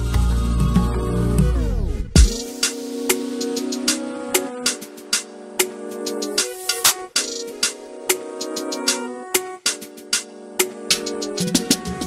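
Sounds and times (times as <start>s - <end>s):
held music chords: 0.0s - 12.0s.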